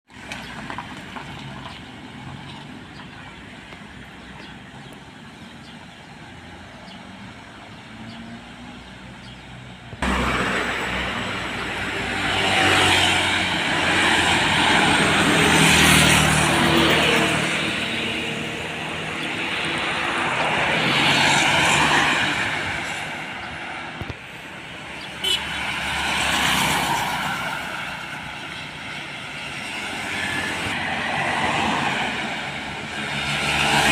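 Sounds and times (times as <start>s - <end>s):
trucks and buses driving past: 0.1s - 33.9s.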